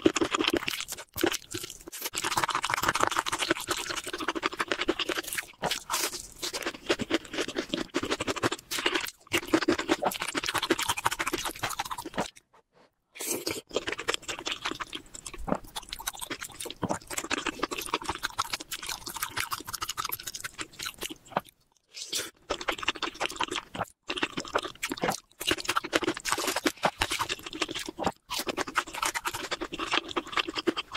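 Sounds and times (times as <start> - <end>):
person chewing food: 0.0 - 12.5, 13.2 - 30.9.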